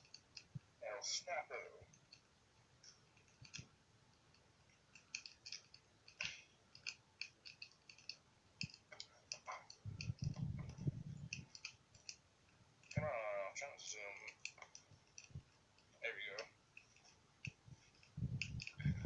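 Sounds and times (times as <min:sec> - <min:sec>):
bonfire crackling: 0:00.0 - 0:19.0
burning wood popping: 0:01.8 - 0:19.0.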